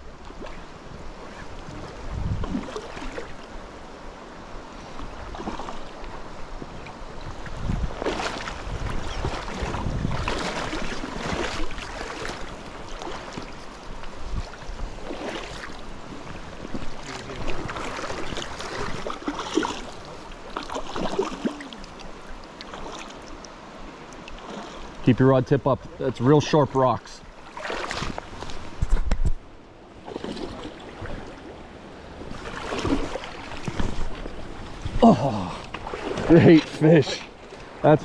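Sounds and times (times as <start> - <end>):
creek water running over rocks: 0.0 - 38.0
water splashing and sloshing: 0.0 - 38.0.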